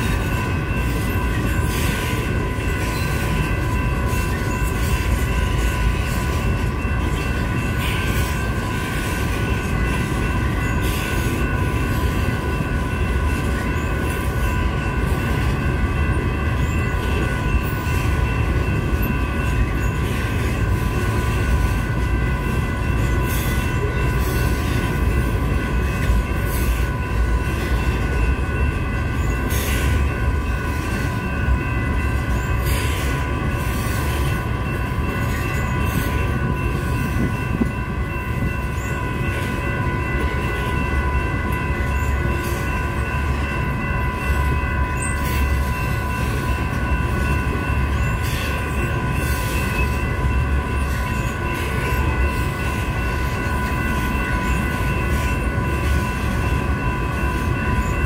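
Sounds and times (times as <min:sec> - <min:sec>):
high ringing tones: 0:00.0 - 0:58.0
train wheels rumbling on rail: 0:00.0 - 0:58.0.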